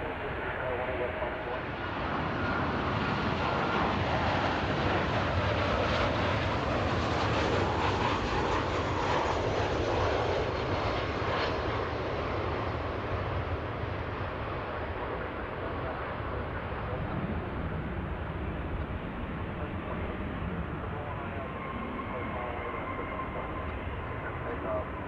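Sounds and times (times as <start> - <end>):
jet airliner engines passing: 0.0 - 25.0.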